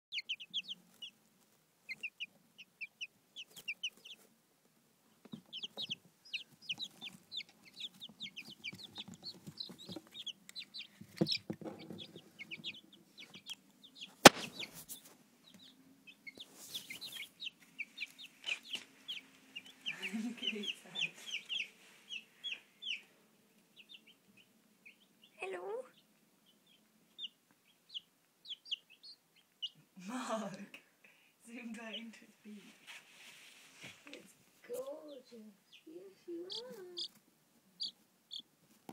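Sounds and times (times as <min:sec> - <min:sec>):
chicks peeping: 0:00.1 - 0:30.5, 0:31.4 - 0:38.9.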